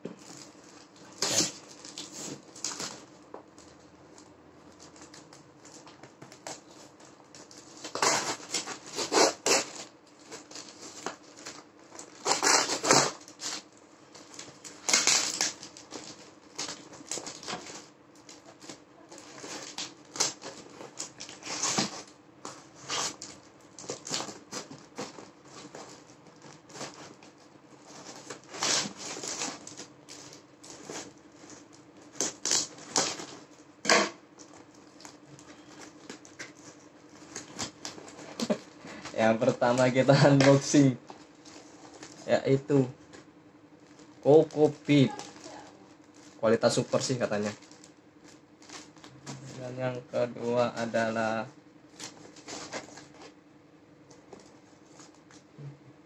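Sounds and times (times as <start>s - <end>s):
faint steady hum: 0.0s - 56.0s
packing tape ripping off cardboard: 0.2s - 3.7s, 4.8s - 42.8s, 44.2s - 49.8s, 51.9s - 53.4s.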